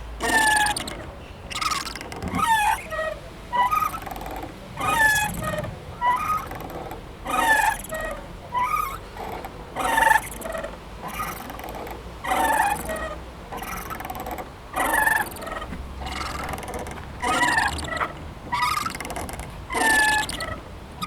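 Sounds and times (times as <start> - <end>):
low steady background noise: 0.0 - 21.0
swing squeaking: 0.0 - 21.0.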